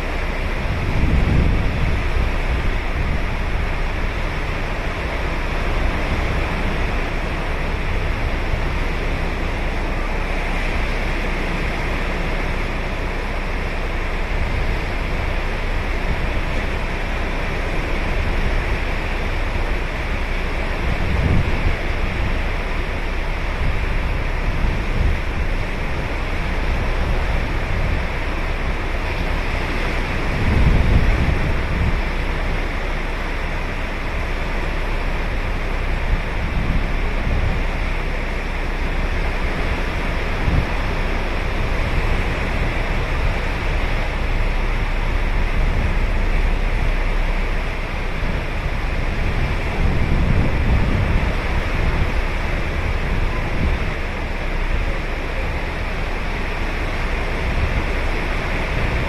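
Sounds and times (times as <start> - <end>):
ocean surf breaking on beach: 0.0 - 59.0
wind buffeting microphone: 0.0 - 59.0.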